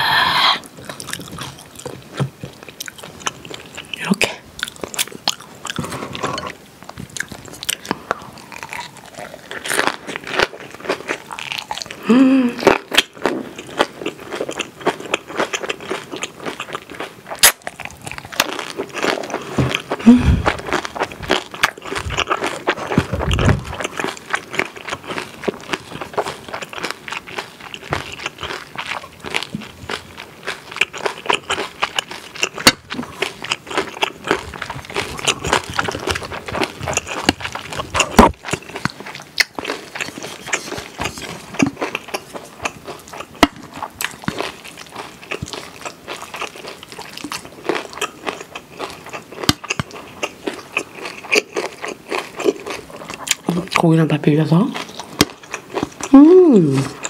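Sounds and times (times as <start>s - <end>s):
wet crunchy chewing: 0.6s - 57.0s.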